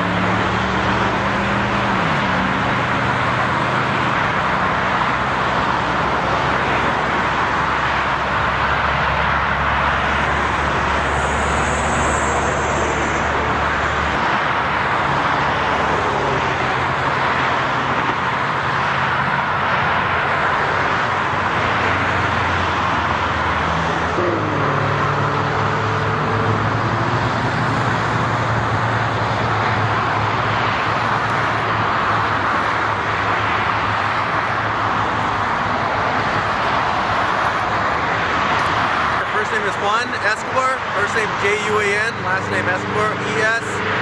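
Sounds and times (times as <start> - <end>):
freeway traffic rushing: 0.0 - 44.0.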